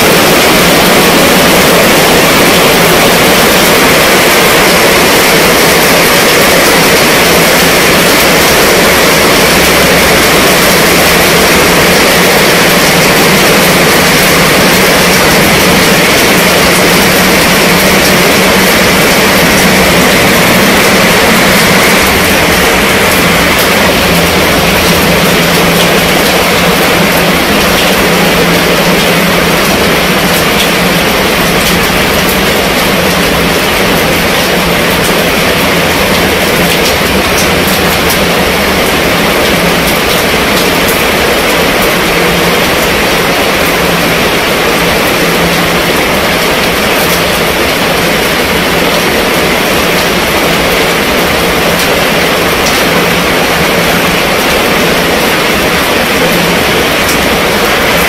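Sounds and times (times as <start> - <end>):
heavy rain on tent canvas: 0.0 - 58.0.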